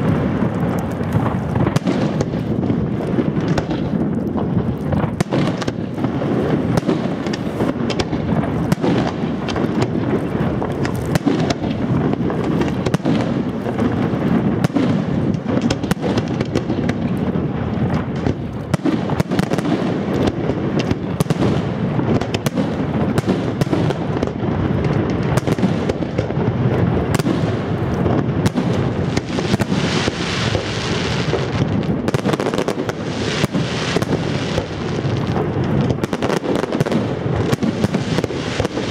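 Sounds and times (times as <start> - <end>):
fireworks bangs and booms: 0.0 - 38.9
fireworks hissing crackle: 0.0 - 38.9.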